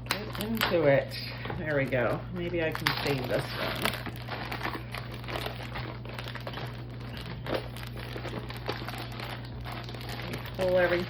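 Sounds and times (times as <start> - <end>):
packaging bag crinkling: 0.0 - 11.0.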